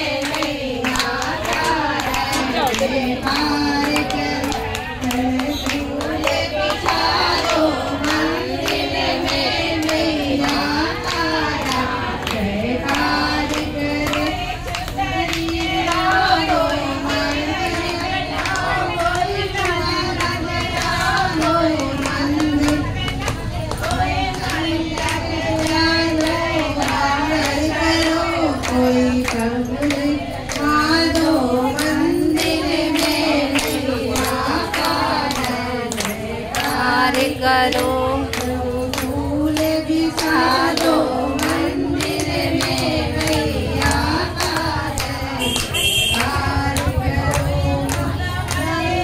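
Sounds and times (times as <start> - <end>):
hands clapping a beat: 0.0 - 49.0
woman singing into microphone: 0.0 - 49.0.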